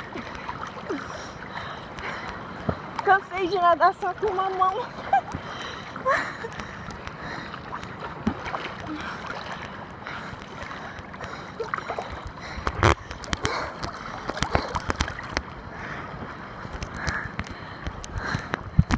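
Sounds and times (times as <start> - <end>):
river water splashing: 0.0 - 18.8.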